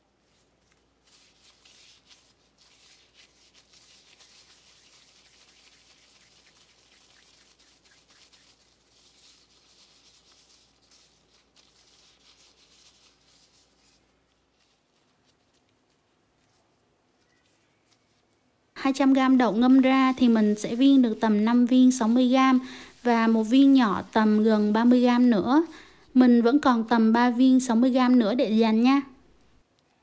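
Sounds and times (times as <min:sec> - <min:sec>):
plastic gloves rustling: 0:00.0 - 0:29.7.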